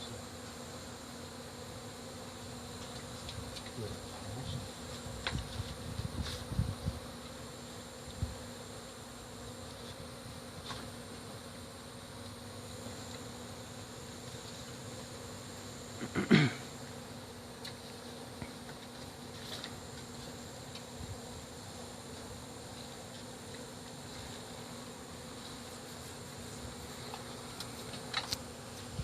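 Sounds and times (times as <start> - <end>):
bees buzzing: 0.0 - 29.0.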